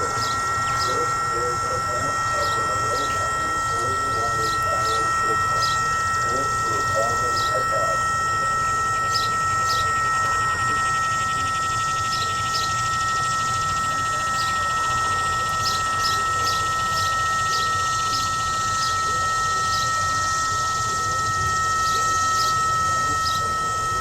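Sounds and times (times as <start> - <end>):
electronic siren two-tone buzz: 0.0 - 24.0.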